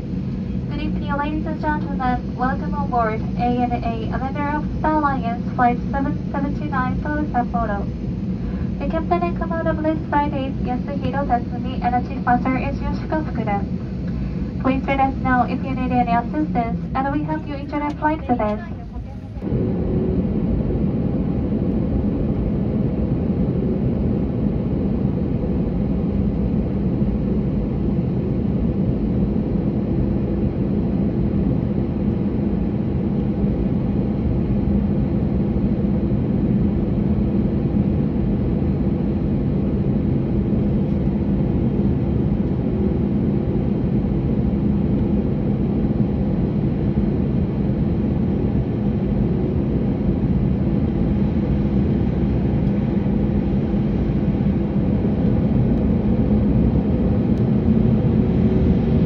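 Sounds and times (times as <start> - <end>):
jet engine hum in cabin: 0.0 - 59.0.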